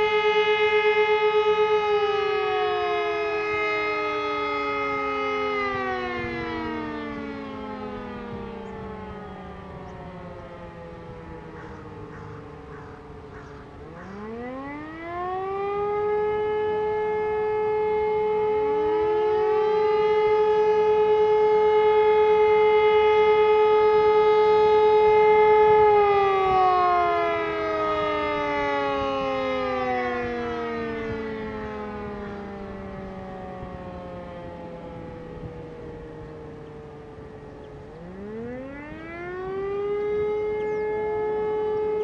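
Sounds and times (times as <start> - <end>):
distant motor siren wailing: 0.0 - 42.0
motor siren wailing: 0.0 - 42.0.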